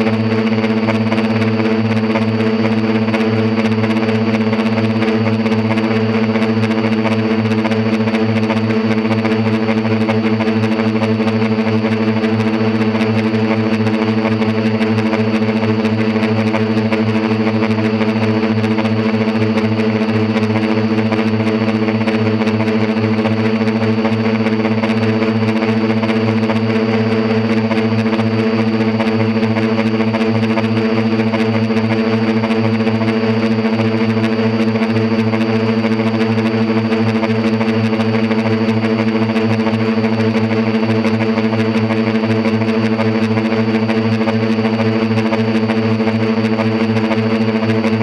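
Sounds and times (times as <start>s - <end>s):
quadcopter motors humming: 0.0s - 48.0s.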